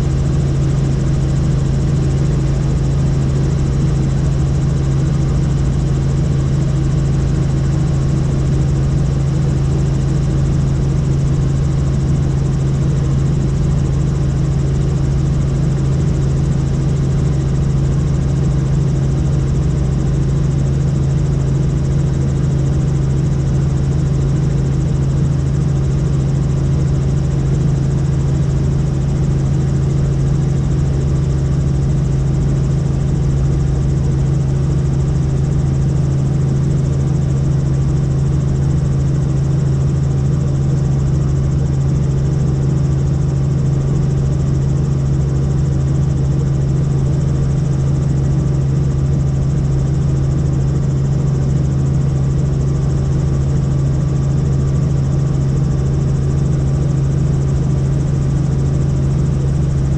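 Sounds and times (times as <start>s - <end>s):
helicopter drone: 0.0s - 59.9s.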